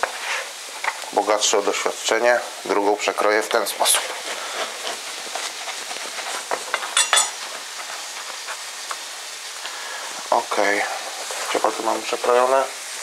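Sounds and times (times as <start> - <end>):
chicken sizzling in grill pan: 0.0 - 13.0.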